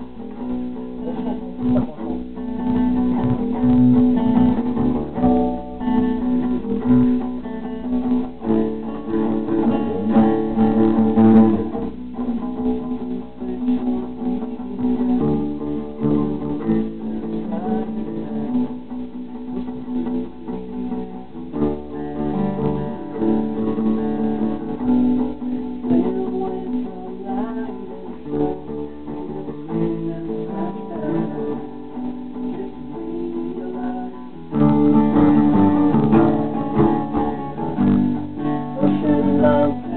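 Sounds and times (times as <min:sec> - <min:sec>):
acoustic bass guitar: 0:00.0 - 0:39.9
acoustic guitar strumming: 0:00.0 - 0:39.9.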